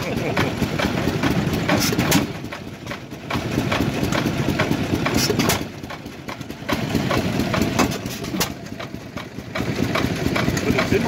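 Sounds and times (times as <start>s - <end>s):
stationary engine running slowly: 0.0s - 11.0s.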